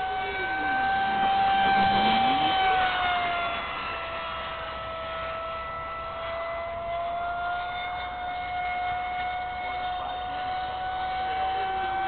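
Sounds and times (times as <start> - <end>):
electric fan high whine: 0.0 - 12.0.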